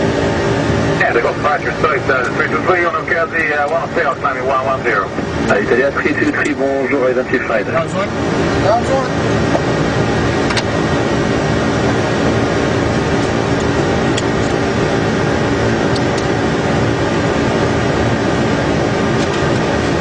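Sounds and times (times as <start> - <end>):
rushing cabin airflow: 0.0 - 20.0.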